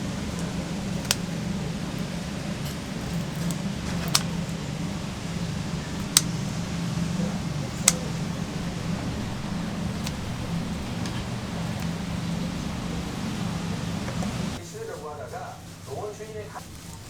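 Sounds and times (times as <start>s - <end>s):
sharp clicks: 0.0s - 14.6s
low mechanical hum: 0.0s - 17.0s.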